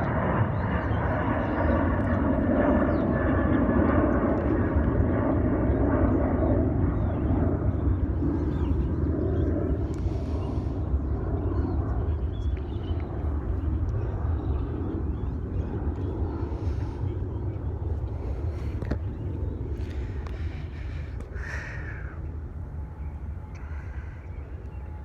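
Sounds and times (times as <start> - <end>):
jet plane taking off: 0.0 - 25.0.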